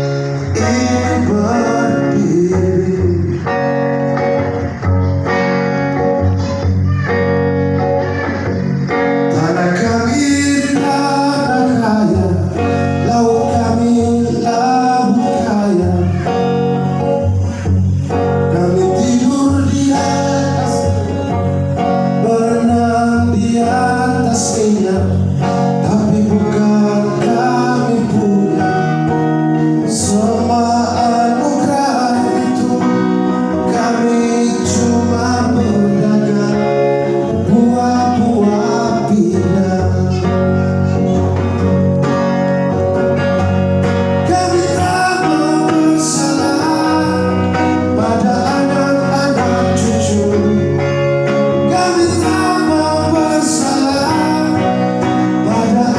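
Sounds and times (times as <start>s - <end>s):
guitar and backing band: 0.0s - 55.9s
man singing: 0.0s - 55.9s.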